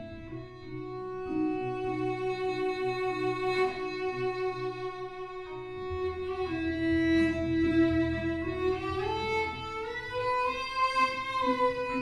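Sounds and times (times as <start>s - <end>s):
solo cello: 0.0s - 12.0s.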